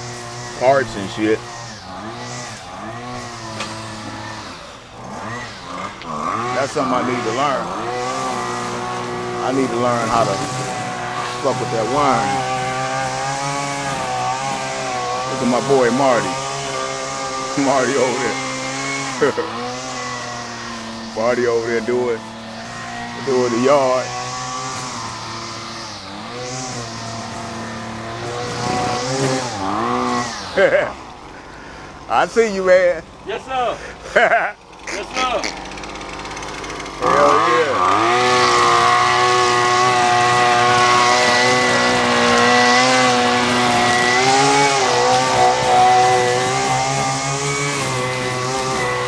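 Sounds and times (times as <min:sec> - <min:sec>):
lawn mower engine running: 0:00.0 - 0:49.0.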